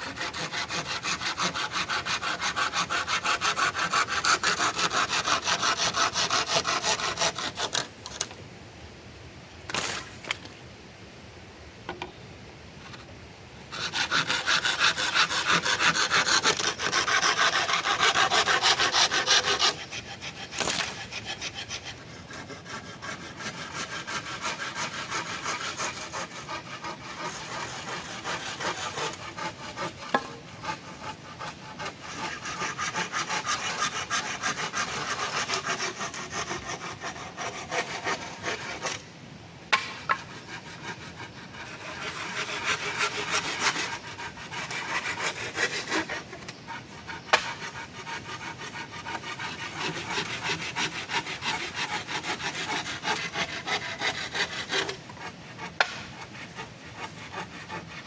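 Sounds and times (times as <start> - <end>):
saw cutting wood: 0.0 - 8.3, 13.7 - 39.0, 39.8 - 58.0.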